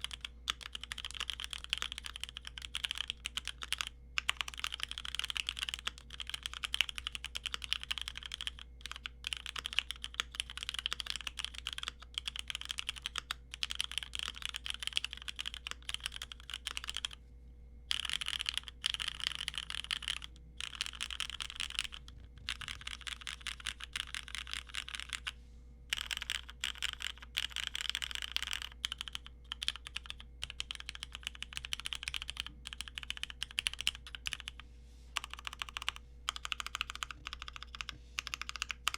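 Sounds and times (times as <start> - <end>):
mechanical keyboard typing: 0.0 - 17.2, 17.9 - 25.3, 25.9 - 34.6, 35.2 - 38.9.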